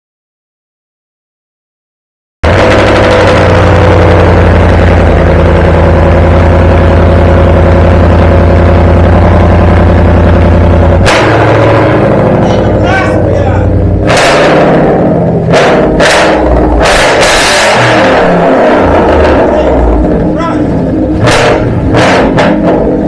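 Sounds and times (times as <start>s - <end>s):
car engine idling loudly: 2.4s - 23.0s.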